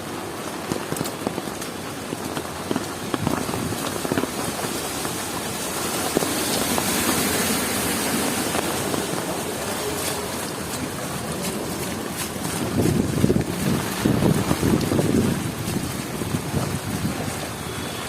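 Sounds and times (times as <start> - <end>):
heavy rain patter: 0.0 - 18.0
steady rushing noise: 1.2 - 18.0.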